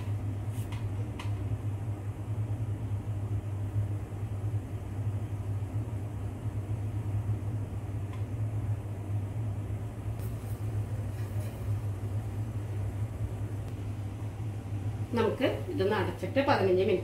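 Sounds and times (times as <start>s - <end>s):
gas burner rumble: 0.0s - 17.0s.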